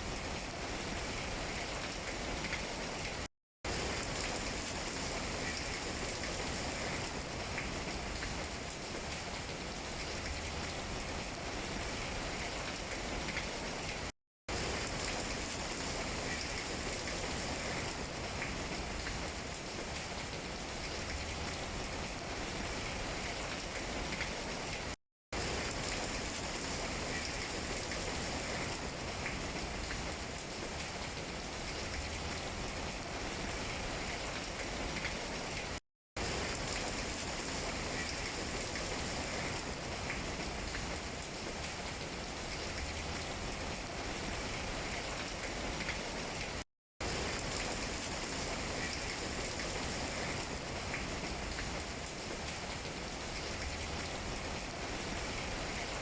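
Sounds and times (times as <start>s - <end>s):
rain on tree leaves: 0.0s - 56.0s.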